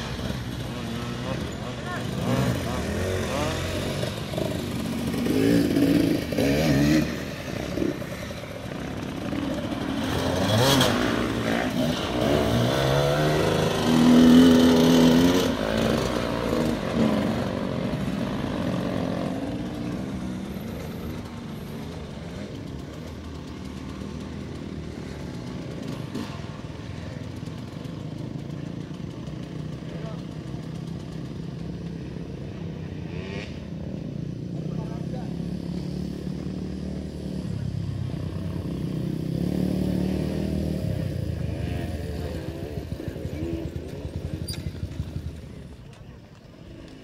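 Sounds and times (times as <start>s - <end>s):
trail bike engine revving: 0.0s - 47.0s.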